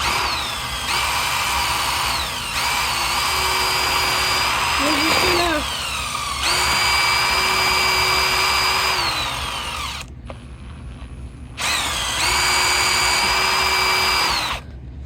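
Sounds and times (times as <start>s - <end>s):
power drill spinning: 0.0s - 10.6s, 11.6s - 14.7s.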